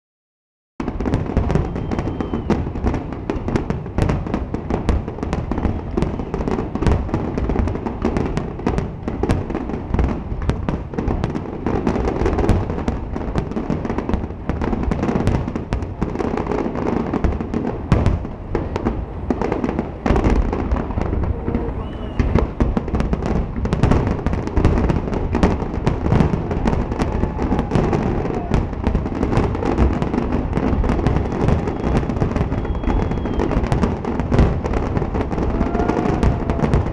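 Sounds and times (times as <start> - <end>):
fireworks bursting and crackling: 0.8 - 36.9.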